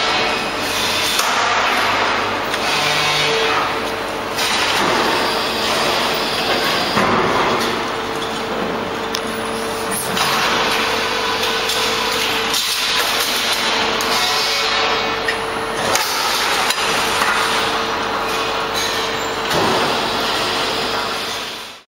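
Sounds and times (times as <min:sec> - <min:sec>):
machine hum: 0:00.0 - 0:21.8.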